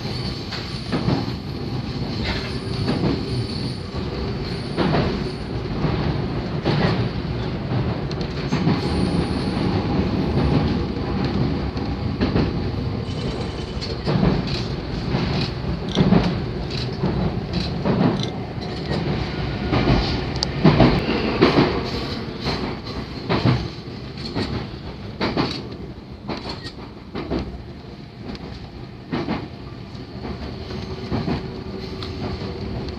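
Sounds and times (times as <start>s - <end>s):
train rumble: 0.0s - 32.9s.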